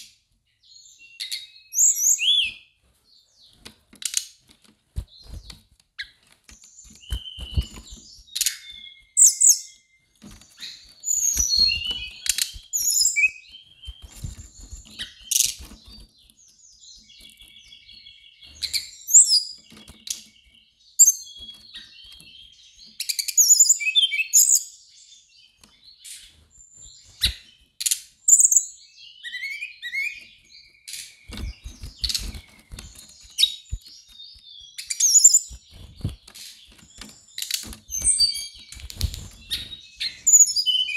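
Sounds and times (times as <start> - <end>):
bird singing chirps and trills: 0.0 - 4.4, 5.0 - 40.9.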